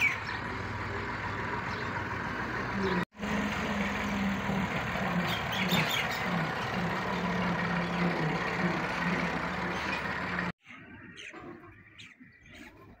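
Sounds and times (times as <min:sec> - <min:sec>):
engine running with rushing hum: 0:00.0 - 0:10.6.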